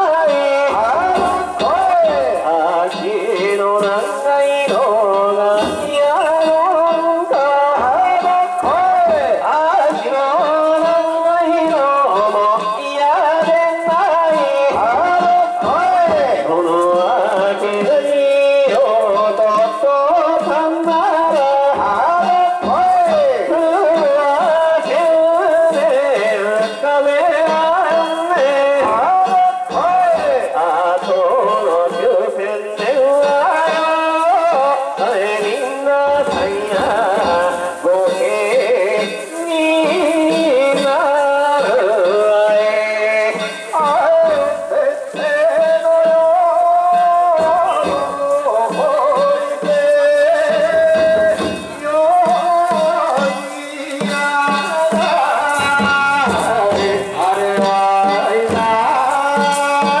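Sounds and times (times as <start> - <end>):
repeated drumbeats: 0.0 - 60.0
wavering festival melody: 0.0 - 60.0.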